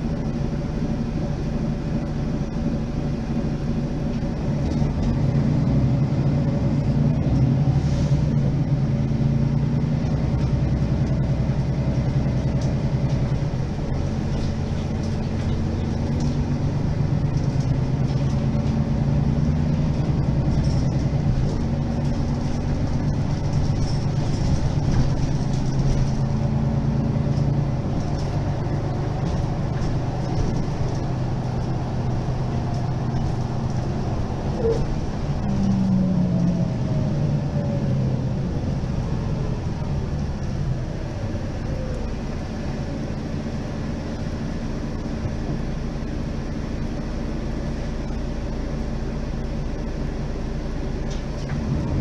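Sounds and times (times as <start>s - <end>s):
bus diesel engine idling: 0.0s - 52.0s.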